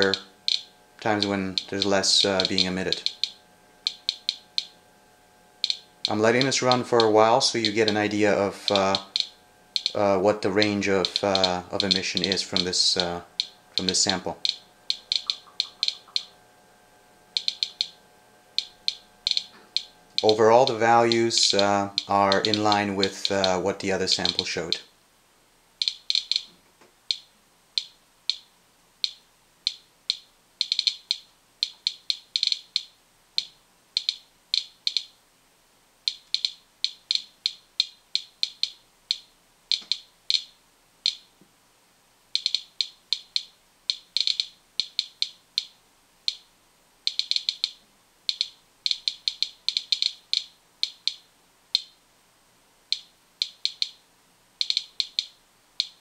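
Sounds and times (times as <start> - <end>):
geiger counter clicking: 0.0 - 4.9, 5.5 - 16.6, 17.2 - 24.9, 25.8 - 35.2, 36.0 - 41.4, 42.3 - 52.0, 52.8 - 54.0, 54.6 - 56.0.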